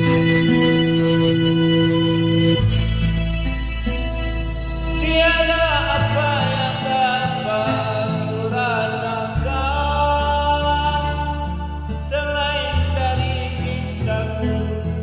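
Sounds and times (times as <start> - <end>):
backing track: 0.0 - 15.0
karaoke singing: 0.0 - 15.0.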